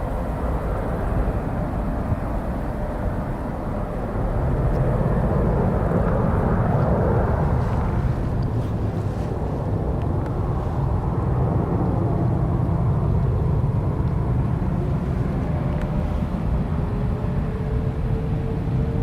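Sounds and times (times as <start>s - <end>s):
faint steady whine: 0.0s - 19.0s
jet engines rumbling: 0.0s - 19.0s.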